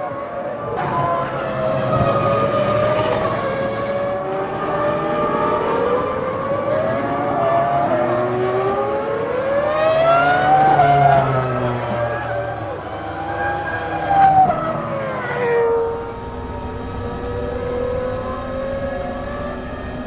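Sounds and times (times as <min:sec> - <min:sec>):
racing car engines screaming: 0:00.0 - 0:20.0.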